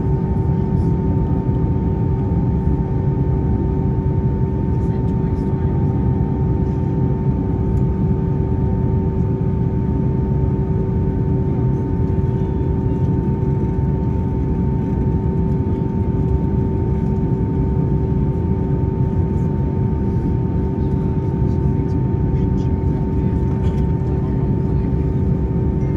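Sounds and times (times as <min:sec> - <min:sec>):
airplane cabin rumble: 0:00.0 - 0:25.9.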